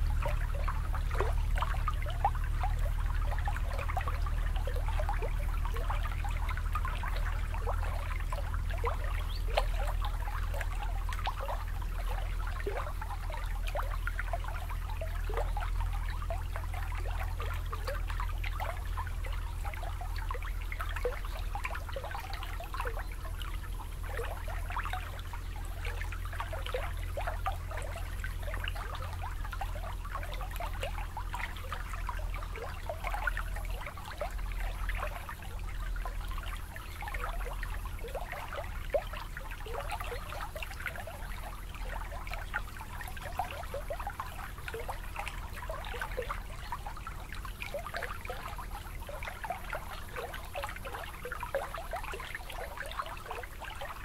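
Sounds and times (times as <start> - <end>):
water lapping at shore: 0.0 - 54.0.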